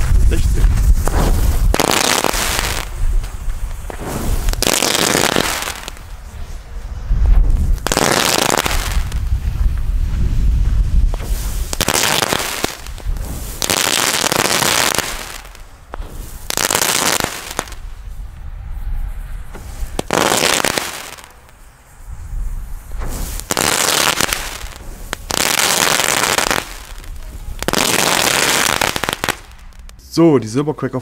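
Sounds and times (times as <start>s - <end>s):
firecrackers crackling: 0.0s - 30.2s.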